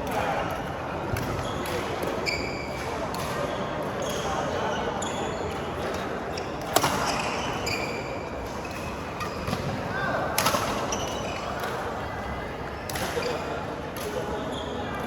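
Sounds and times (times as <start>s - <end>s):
background chatter: 0.0s - 15.0s.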